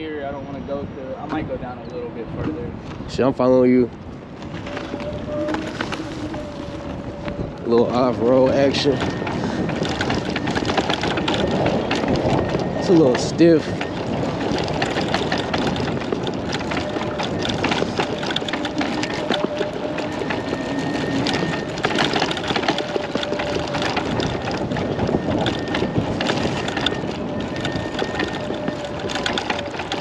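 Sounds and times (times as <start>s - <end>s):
wind and tyre noise: 0.0s - 30.0s
scooter rattling over bumps: 2.4s - 30.0s
faint electric motor whine: 4.4s - 30.0s.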